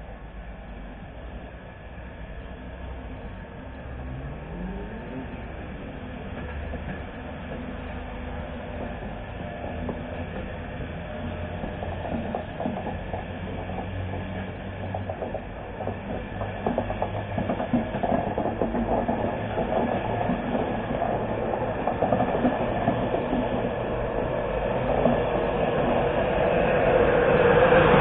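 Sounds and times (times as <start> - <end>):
electric locomotive approaching: 0.0 - 28.0
train wheels clacking over track: 3.9 - 28.0.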